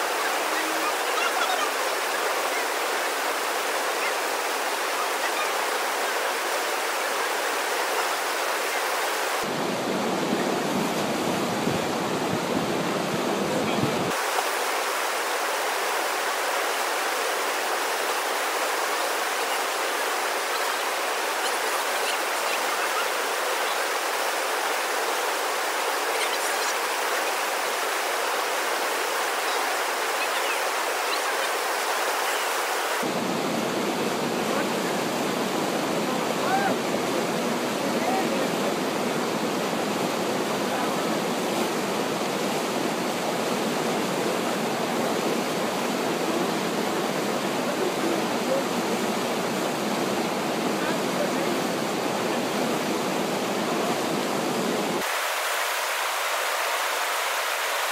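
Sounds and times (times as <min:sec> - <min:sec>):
river whitewater rushing: 0:00.0 - 0:57.9.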